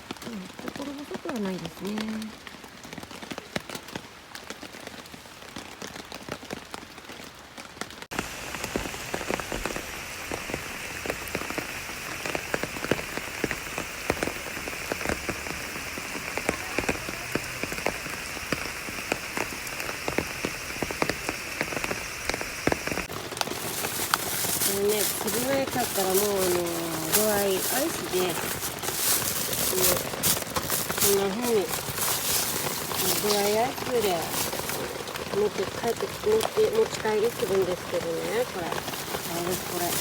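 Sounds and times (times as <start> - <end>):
rain drops striking a surface: 0.0 - 40.0.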